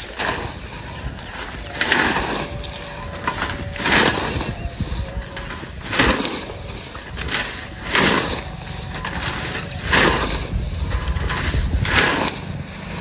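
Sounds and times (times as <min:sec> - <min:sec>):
blade slicing through leafy plants: 0:00.0 - 0:13.0
low steady rumble: 0:00.0 - 0:13.0.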